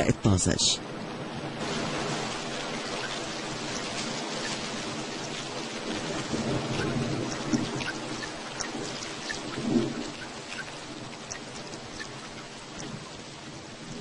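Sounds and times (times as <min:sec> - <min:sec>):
steady rain hiss: 0:00.0 - 0:14.0
raindrop ticks: 0:01.3 - 0:14.0.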